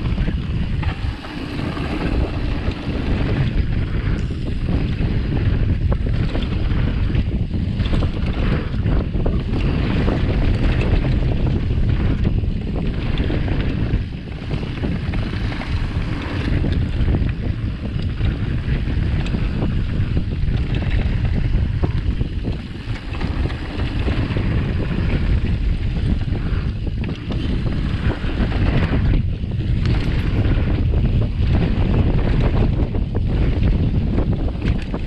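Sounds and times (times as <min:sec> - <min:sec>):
bike clicks and rattles: 0:00.0 - 0:35.0
tyres rumbling on dirt: 0:00.0 - 0:35.0
wind noise on microphone: 0:00.0 - 0:35.0.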